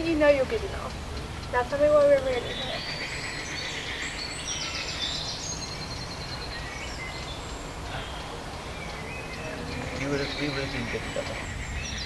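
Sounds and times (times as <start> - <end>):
birds trilling and chirping: 0.0 - 12.0.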